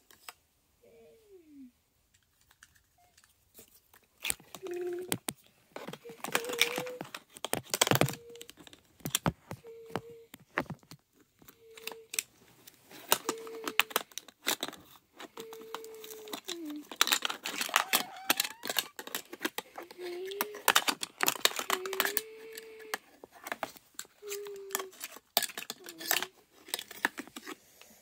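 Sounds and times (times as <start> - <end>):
plastic toy clicks and rattles: 2.1 - 3.3, 4.2 - 27.6
foil and plastic crinkling: 4.2 - 27.6.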